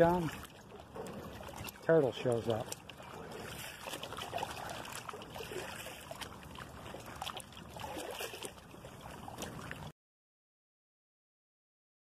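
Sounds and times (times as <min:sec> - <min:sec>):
small waves lapping: 0:00.0 - 0:09.9.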